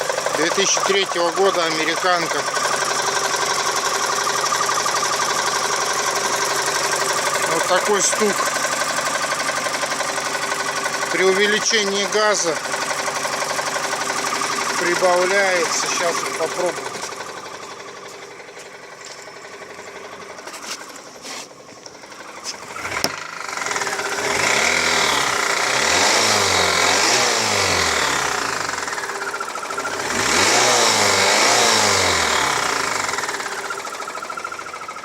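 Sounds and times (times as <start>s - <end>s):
car engine idling and revving: 0.0s - 35.0s
engine knocking: 0.0s - 35.0s.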